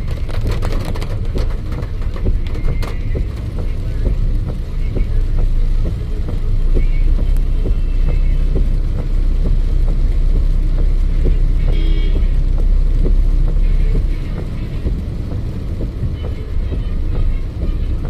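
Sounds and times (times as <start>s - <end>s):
traffic on a flooded road: 0.0s - 18.0s.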